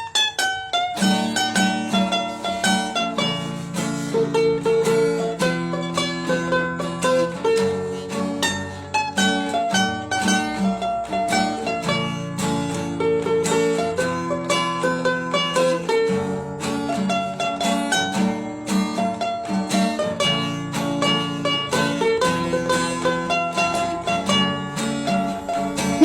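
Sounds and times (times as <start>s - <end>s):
plucked string music: 0.0s - 26.0s.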